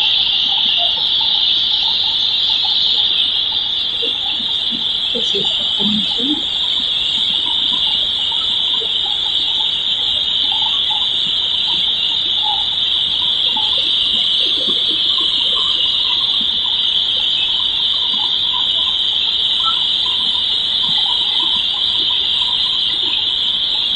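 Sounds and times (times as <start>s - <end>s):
high-pitched hiss: 0.0s - 23.9s.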